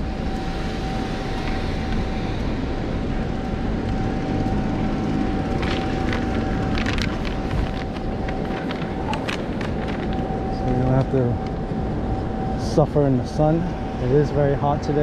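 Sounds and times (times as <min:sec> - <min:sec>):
low rumble: 0:00.0 - 0:15.0
mechanical hum: 0:00.0 - 0:15.0.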